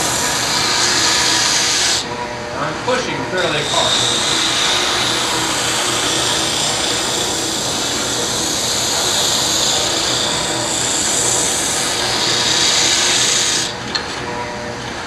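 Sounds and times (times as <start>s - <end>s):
drum sander sanding wood: 0.0s - 14.1s
machine hum: 0.0s - 15.0s.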